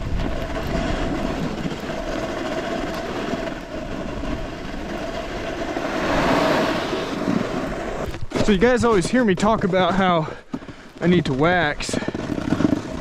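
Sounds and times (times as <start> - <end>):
snowboard sliding on wet snow: 0.0 - 13.0.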